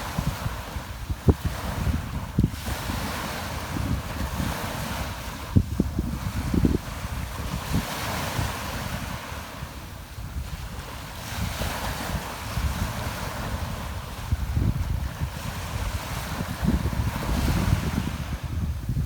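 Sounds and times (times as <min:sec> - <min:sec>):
sea surf breaking: 0:00.0 - 0:18.9
wind buffeting microphone: 0:00.0 - 0:19.0.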